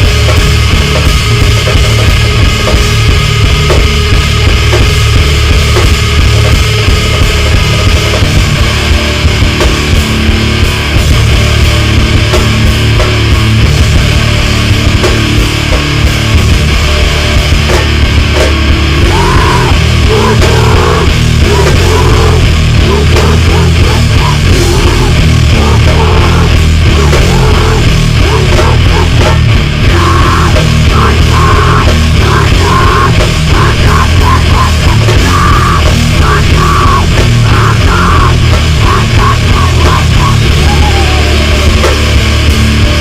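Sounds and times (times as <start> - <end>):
bass guitar: 0.0 - 43.0
distorted guitars: 0.0 - 43.0
drums: 0.0 - 43.0
keyboards: 0.0 - 43.0.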